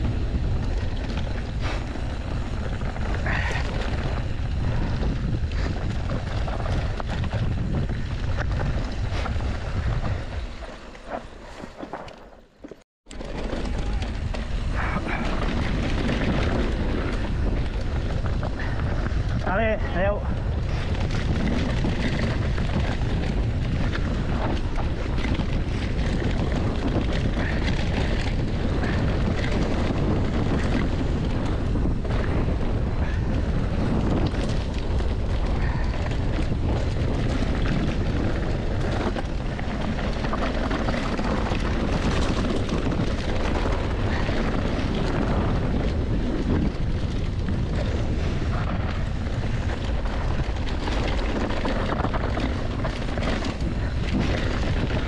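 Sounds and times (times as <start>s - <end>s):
bike knocking and rattling: 0.0s - 55.0s
tyres rumbling on dirt: 0.0s - 55.0s
wind rushing over microphone: 0.0s - 55.0s.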